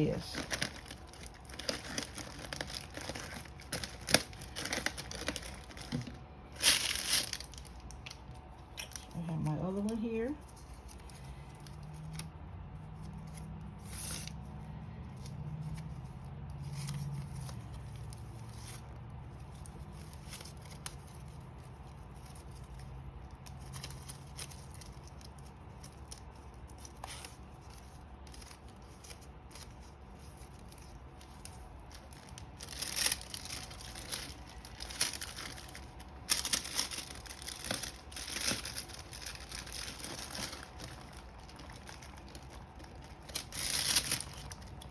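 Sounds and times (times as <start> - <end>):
plastic wrapping crinkling: 0.0 - 44.9.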